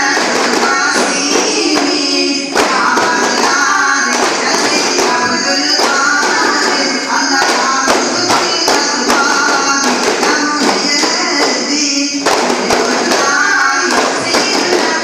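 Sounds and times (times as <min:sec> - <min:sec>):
frame drums beating: 0:00.0 - 0:15.0
voices singing: 0:00.0 - 0:15.0.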